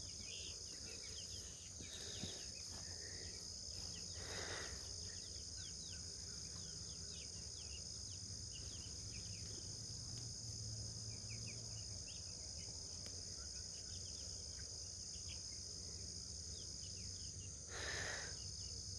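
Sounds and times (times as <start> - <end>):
crickets chirring: 0.0 - 18.9
small birds chirping: 0.0 - 18.9.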